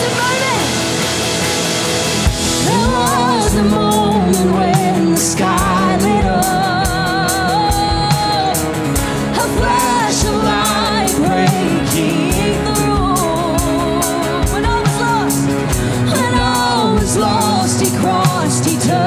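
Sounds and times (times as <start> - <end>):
drums beating: 0.0 - 19.0
strummed guitars: 0.0 - 19.0
woman singing: 2.6 - 19.0.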